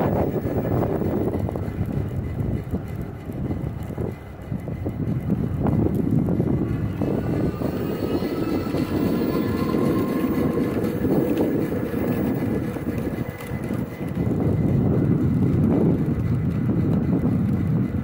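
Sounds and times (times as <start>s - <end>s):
faint electric motor whine: 0.0s - 18.0s
tires rumbling over wooden planks: 0.0s - 18.0s
wind buffeting microphone: 0.0s - 18.0s.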